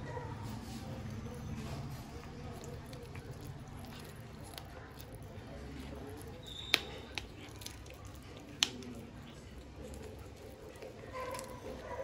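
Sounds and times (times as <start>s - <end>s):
cat chewing wetly: 0.5s - 12.0s.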